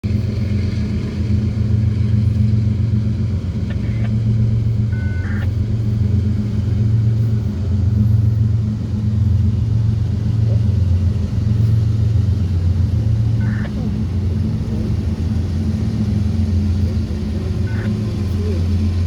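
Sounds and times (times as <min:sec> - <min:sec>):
diesel locomotives droning: 0:00.0 - 0:19.0.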